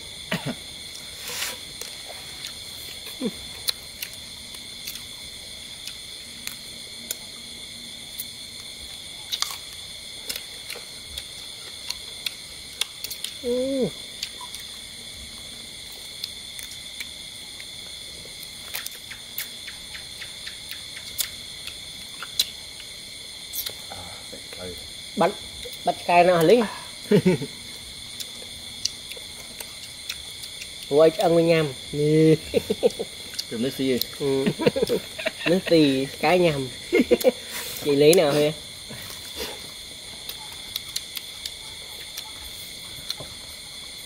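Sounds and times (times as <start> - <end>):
night insects trilling: 0.0 - 44.0
people eating with hands: 0.2 - 7.5, 8.1 - 44.0.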